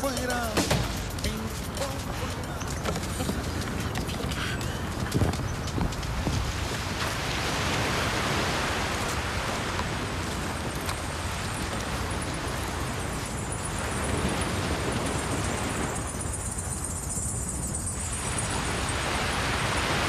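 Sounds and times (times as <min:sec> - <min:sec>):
wind and sea rushing: 0:00.0 - 0:20.0.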